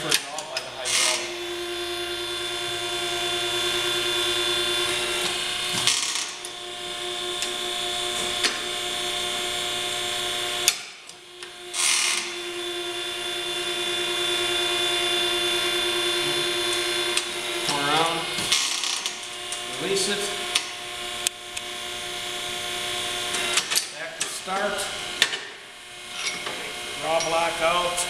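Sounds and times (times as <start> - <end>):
hydraulic pump whine: 0.0 - 28.0.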